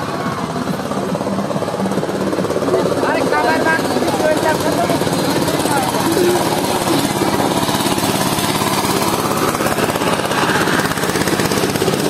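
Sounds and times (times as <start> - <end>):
engine running with clatter: 0.0 - 12.0.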